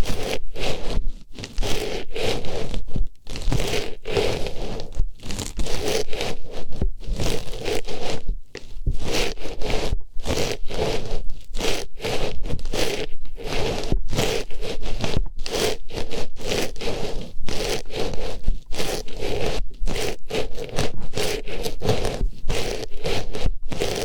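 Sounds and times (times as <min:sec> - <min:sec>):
scratchy rustling in ear: 0:00.0 - 0:24.0.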